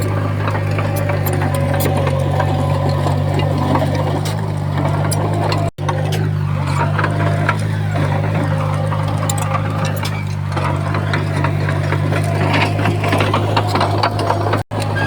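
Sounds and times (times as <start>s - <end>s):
bulldozer diesel engine running: 0.0s - 15.0s
machine clanks and rattles: 0.0s - 15.0s.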